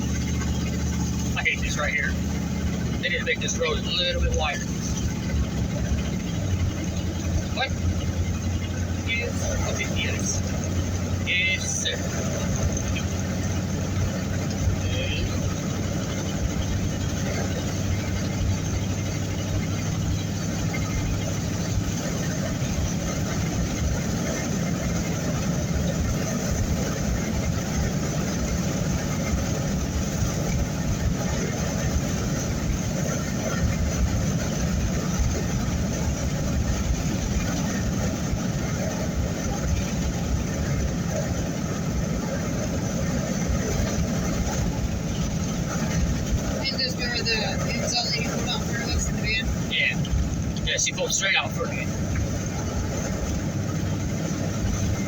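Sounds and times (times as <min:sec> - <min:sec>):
road and wind noise: 0:00.0 - 0:55.0
vehicle engine hum: 0:00.0 - 0:55.0.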